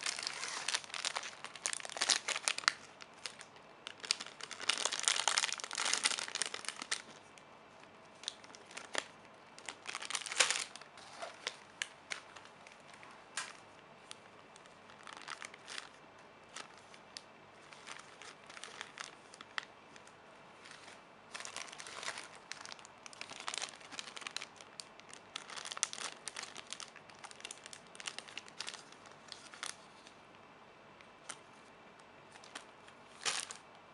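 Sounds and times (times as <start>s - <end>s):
plastic packaging crinkling: 0.0s - 7.4s, 8.2s - 30.2s, 32.3s - 33.7s.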